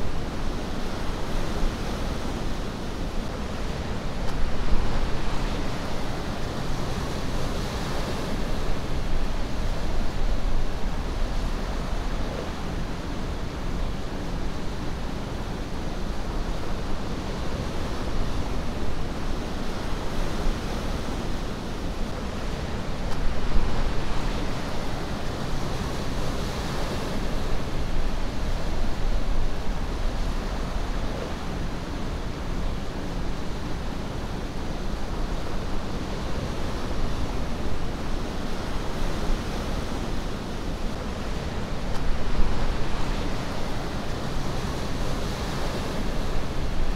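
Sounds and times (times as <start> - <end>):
surf washing over rocks: 0.0 - 46.9.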